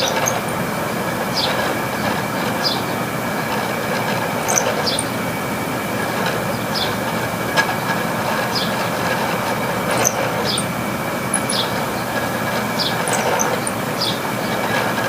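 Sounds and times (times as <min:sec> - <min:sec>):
short high squeaks: 0:00.0 - 0:00.7, 0:01.3 - 0:05.2, 0:06.2 - 0:15.0
air conditioner running with whine: 0:00.0 - 0:15.0.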